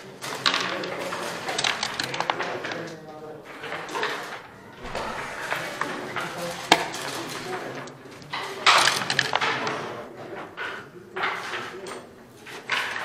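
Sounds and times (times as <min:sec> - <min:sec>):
checkers and dice clacking: 0:00.0 - 0:13.0
low voices: 0:00.0 - 0:13.0.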